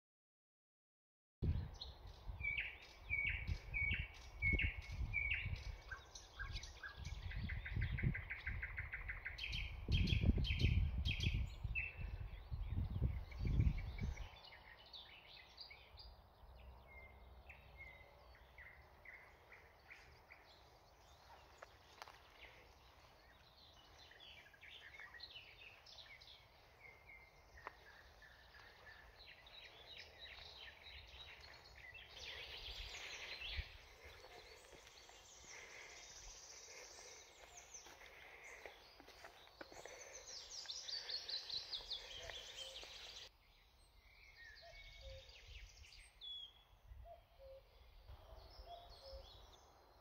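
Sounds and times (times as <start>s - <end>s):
small birds chirping and singing: 1.4s - 50.0s.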